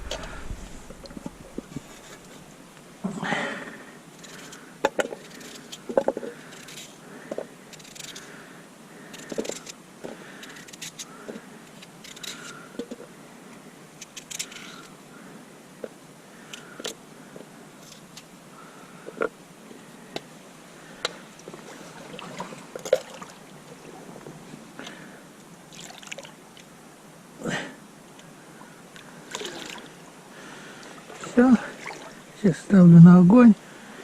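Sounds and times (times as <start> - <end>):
faint steady hiss: 0.0 - 34.0.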